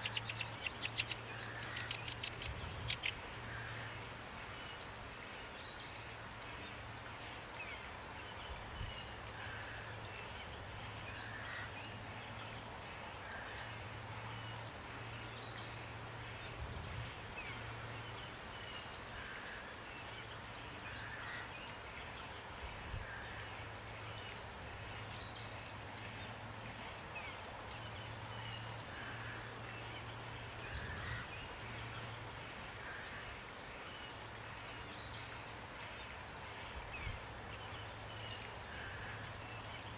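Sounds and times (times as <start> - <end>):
songbirds chirping and trilling: 0.0 - 39.9
steady rain hiss: 0.0 - 39.9.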